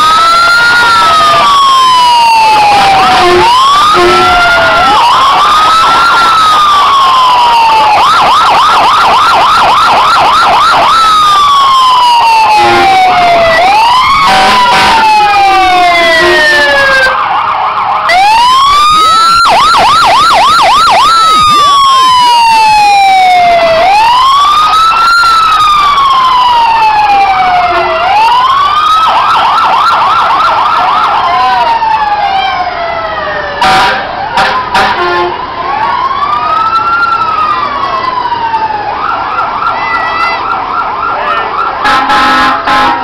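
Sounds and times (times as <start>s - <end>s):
fire engine siren: 0.0s - 43.0s.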